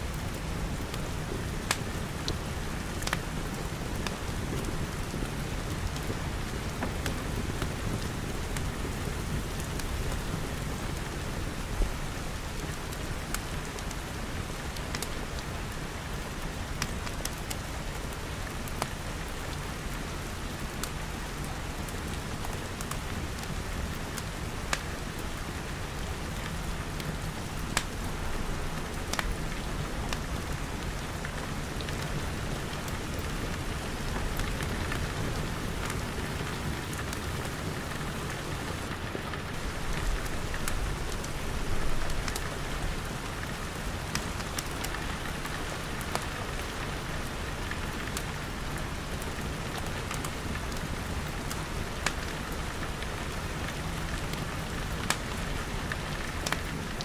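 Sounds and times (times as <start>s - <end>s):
wood fire crackling: 0.0s - 57.0s
rain pattering on glass: 0.1s - 57.0s.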